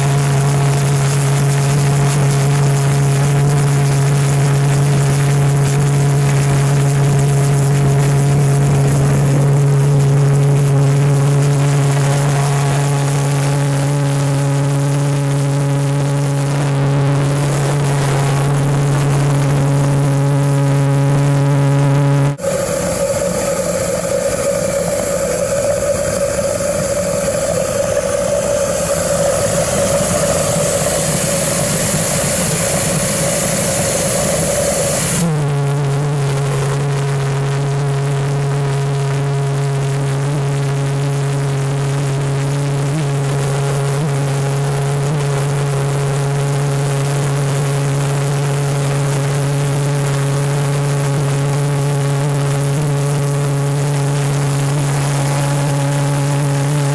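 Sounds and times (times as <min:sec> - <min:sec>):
jet engine roaring: 0:00.0 - 0:56.9.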